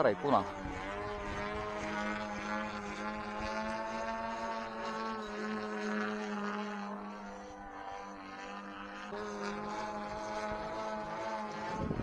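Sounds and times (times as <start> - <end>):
model plane engine with propeller buzz: 0.0 - 12.0.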